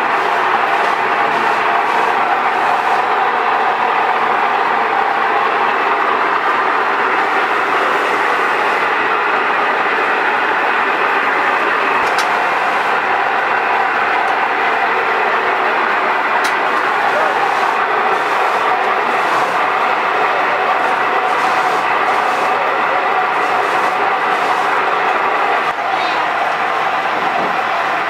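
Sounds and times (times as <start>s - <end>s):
machine motor running: 0.0s - 28.0s.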